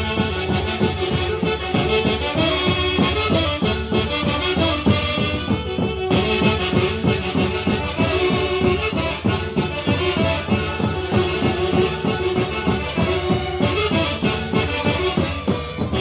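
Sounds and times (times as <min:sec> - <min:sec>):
instrumental band music: 0:00.0 - 0:16.0.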